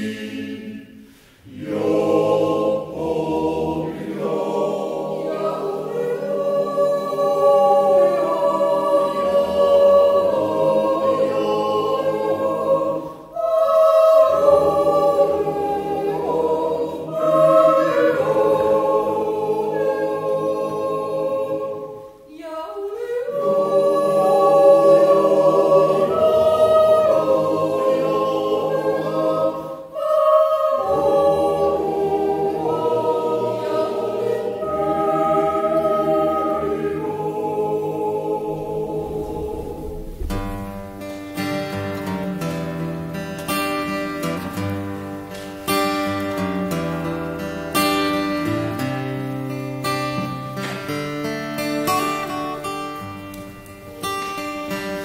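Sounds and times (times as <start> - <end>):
choir yodel singing a cappella: 0.0 - 55.0.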